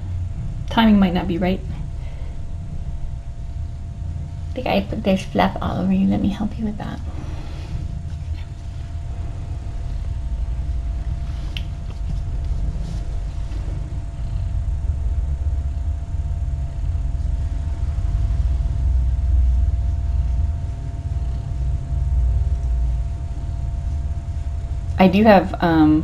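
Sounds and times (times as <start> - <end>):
faint steady hum: 0.0 - 26.0
low fluctuating rumble: 0.0 - 26.0.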